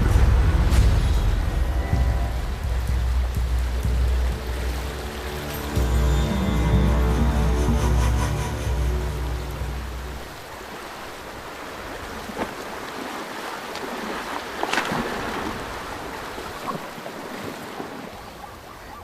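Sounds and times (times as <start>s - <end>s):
river water churning and splashing: 0.0s - 19.0s.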